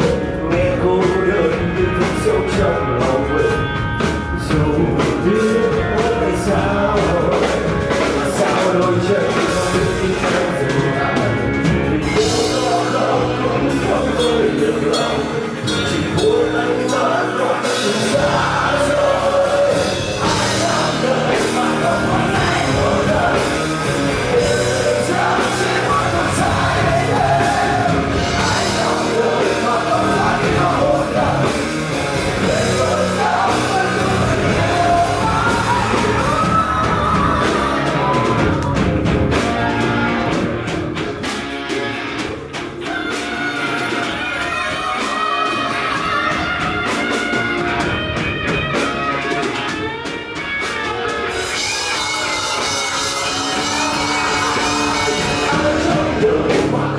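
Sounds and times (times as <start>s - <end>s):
person singing and yelling: 0.0s - 40.7s, 42.8s - 48.0s, 50.8s - 56.9s
rock band playing live: 0.0s - 56.9s.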